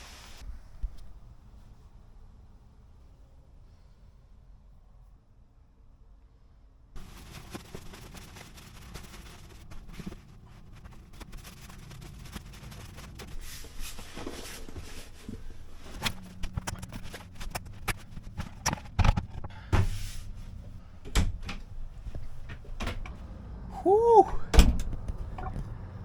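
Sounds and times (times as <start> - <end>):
low steady rumble: 0.4 - 26.0.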